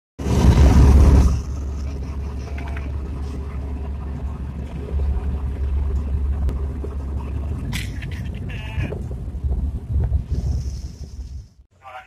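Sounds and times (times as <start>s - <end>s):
boat engine rumbling: 0.2s - 11.7s
wind on open water: 0.2s - 11.7s.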